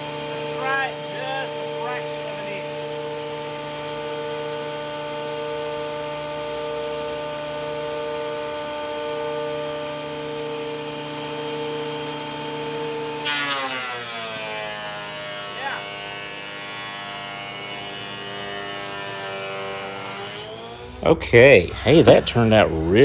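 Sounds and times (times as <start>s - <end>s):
thickness planer motor whining: 0.0s - 23.0s.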